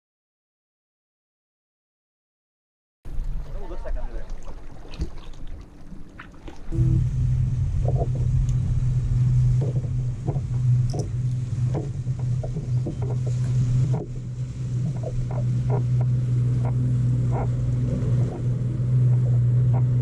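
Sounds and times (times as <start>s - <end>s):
boat motor humming: 3.1s - 20.0s.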